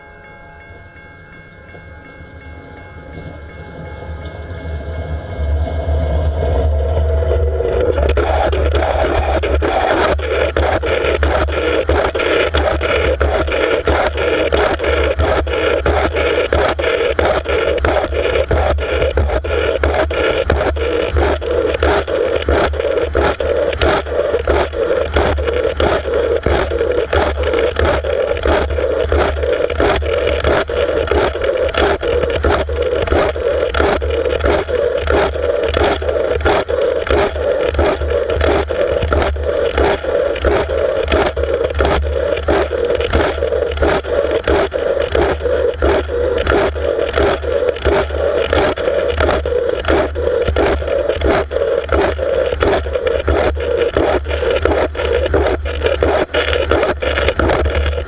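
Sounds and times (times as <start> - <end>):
train wheels rumbling on rails: 0.0 - 58.0
sharp wheel clicks: 7.7 - 58.0.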